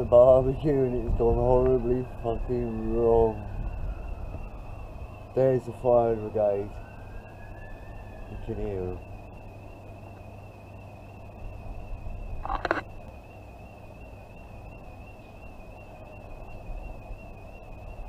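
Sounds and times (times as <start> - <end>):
distant warbling alarm sounder: 0.0 - 18.0.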